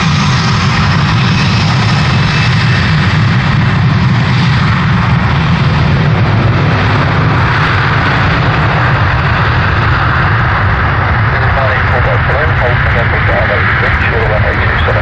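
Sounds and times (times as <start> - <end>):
jet engines at takeoff power: 0.0 - 15.0.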